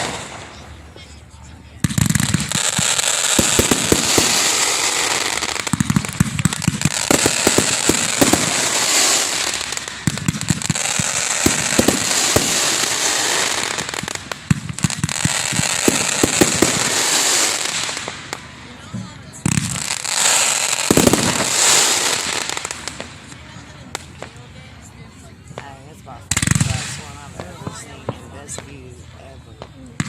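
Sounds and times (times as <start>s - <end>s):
firework bangs: 0.0s - 0.9s, 1.8s - 24.4s, 25.5s - 30.0s
firework crackling: 0.0s - 1.0s, 1.8s - 30.0s.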